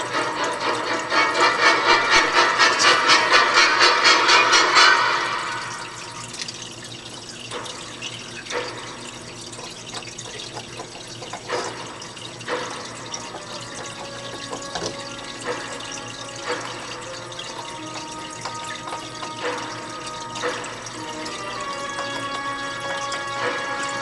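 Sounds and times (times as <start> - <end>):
aquarium water trickling: 0.0 - 24.0.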